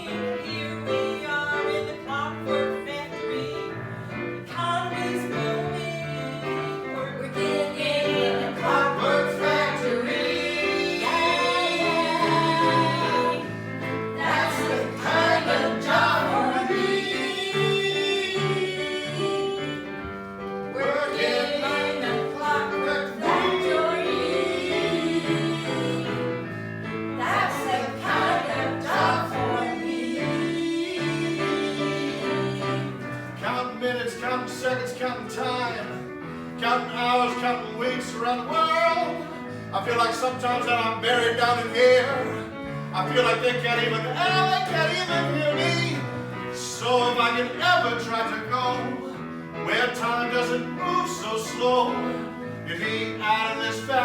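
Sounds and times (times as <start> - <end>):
instrumental accompaniment: 0.0 - 54.0.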